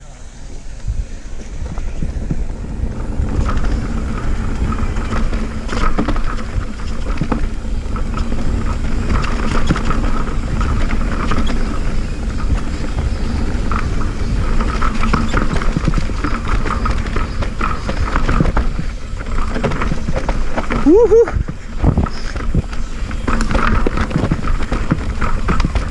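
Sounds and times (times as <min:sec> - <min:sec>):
bike rattling: 0:00.0 - 0:25.9
bike tyres rolling on dirt: 0:00.0 - 0:25.9
wind on microphone: 0:00.0 - 0:25.9.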